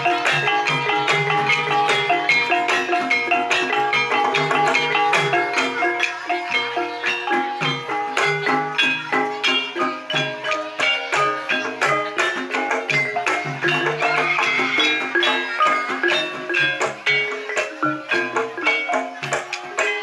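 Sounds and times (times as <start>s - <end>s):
hand drum pulse: 0.0s - 20.0s
mallet-struck tuned instruments: 0.0s - 20.0s.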